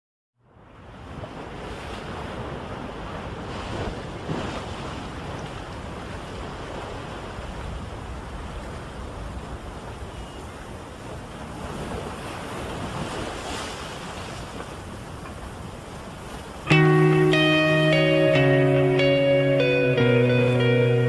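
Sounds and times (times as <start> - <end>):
ocean waves washing on a shore: 0.4 - 21.0
wind: 0.4 - 21.0.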